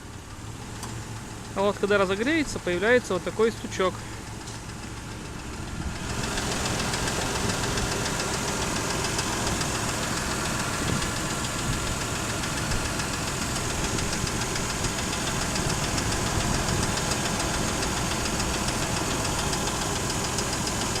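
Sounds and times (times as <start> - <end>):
engine idling: 0.0 - 21.0
rapid engine knock: 0.0 - 21.0.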